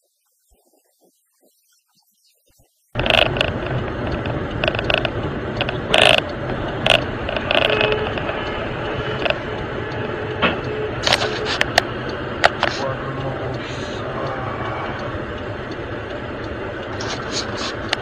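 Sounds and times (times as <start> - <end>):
road and engine noise in vehicle: 3.0 - 18.0.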